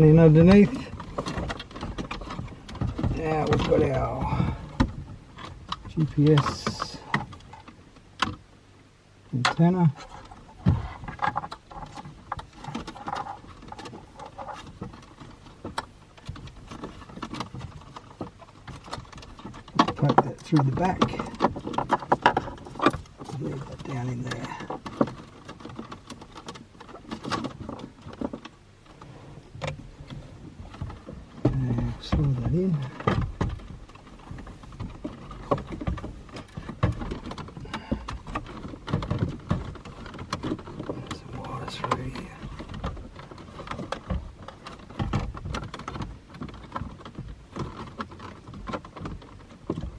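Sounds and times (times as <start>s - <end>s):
wires and plastic rustling: 0.0s - 7.8s, 9.4s - 49.9s
plastic and metal clicks and knocks: 9.4s - 49.9s.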